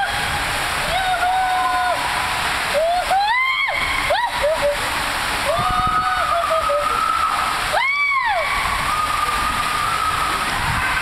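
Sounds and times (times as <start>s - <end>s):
water rushing down a slide: 0.0s - 11.0s.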